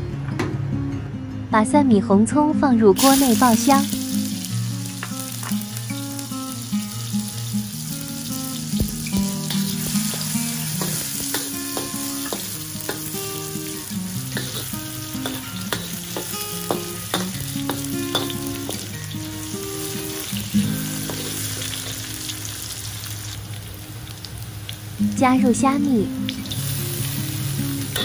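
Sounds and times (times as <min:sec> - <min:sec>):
garlic sizzling in hot oil: 0:03.0 - 0:28.0.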